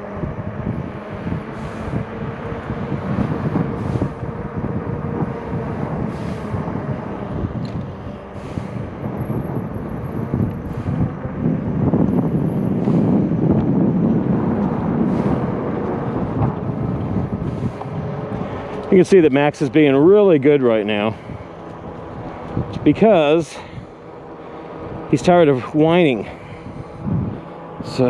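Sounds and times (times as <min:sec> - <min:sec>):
bike tyre rumble: 0:00.0 - 0:28.0
wind buffeting microphone: 0:00.0 - 0:28.0.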